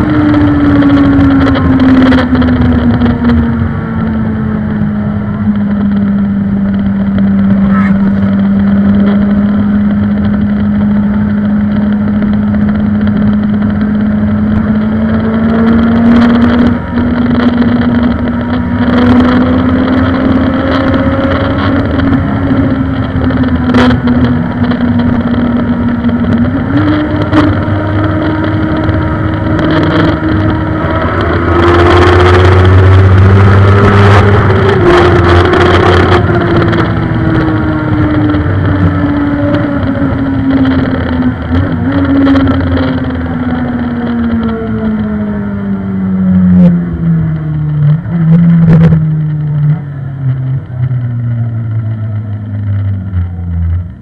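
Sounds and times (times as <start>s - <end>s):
motorcycle engine running hard: 0.0s - 54.0s
wind rush: 0.0s - 54.0s.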